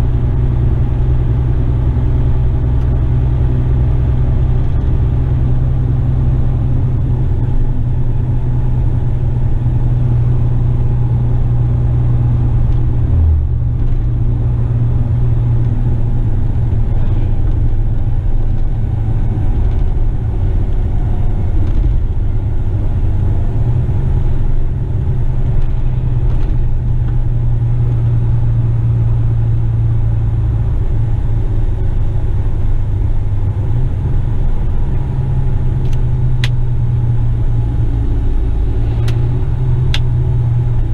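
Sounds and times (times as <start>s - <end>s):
road noise: 0.0s - 40.9s
truck diesel engine droning: 0.0s - 40.9s.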